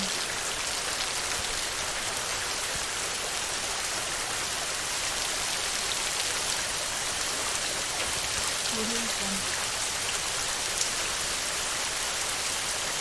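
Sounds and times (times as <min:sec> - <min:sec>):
heavy rain on a metal roof: 0:00.0 - 0:13.0.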